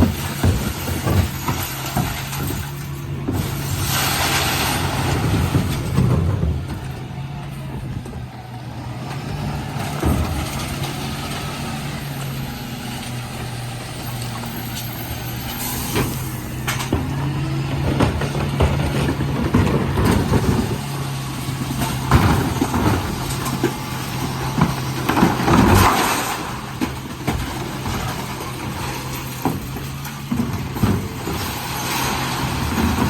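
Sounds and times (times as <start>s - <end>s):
truck diesel engine running: 0.0s - 33.0s.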